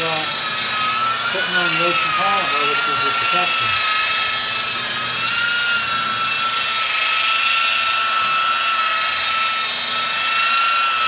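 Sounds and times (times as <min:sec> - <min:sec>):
rotary buffer motor whine: 0:00.0 - 0:11.0.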